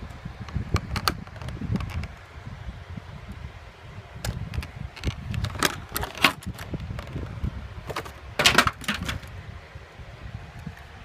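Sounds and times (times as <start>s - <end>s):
low rumble of hand handling: 0.0s - 9.5s.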